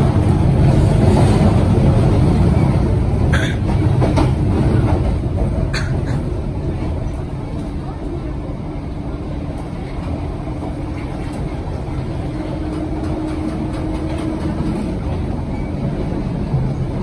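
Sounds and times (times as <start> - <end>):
train rumble on board: 0.0 - 17.0.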